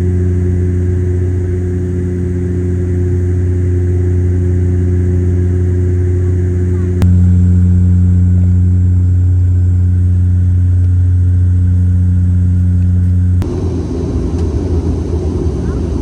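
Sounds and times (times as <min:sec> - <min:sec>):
propeller drone in cabin: 0:00.0 - 0:16.0.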